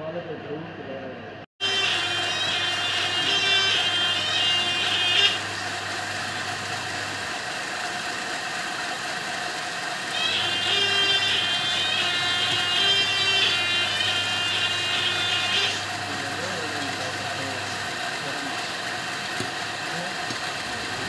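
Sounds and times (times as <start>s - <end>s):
high-pitched whine: 0.1s - 21.0s
motor humming: 1.6s - 21.0s.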